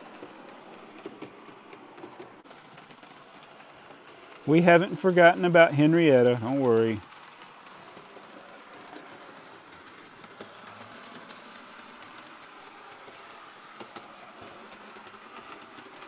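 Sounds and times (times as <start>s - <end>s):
model train motor whir: 0.0s - 16.0s
wheels clicking on rails: 0.0s - 16.0s.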